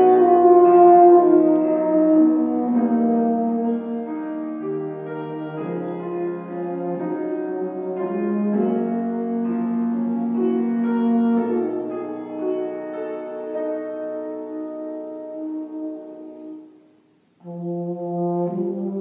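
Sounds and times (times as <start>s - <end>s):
brass instrument melody: 0.0s - 19.0s
piano accompaniment: 0.0s - 19.0s.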